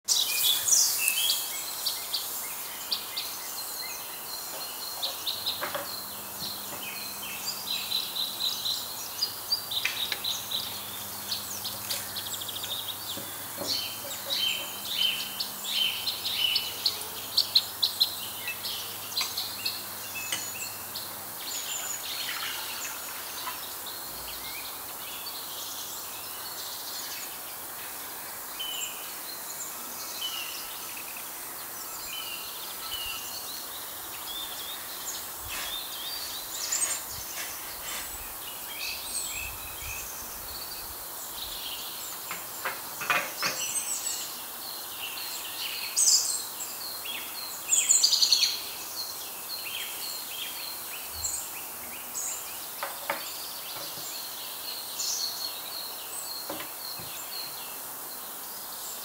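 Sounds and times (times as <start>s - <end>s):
background hiss: 0.0s - 59.0s
small birds chirping: 0.0s - 59.0s.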